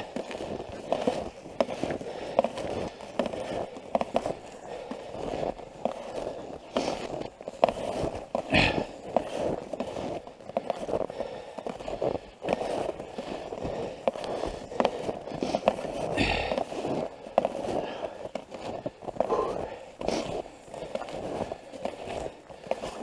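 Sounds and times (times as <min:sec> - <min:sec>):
footsteps crunching through snow: 0:00.0 - 0:23.0.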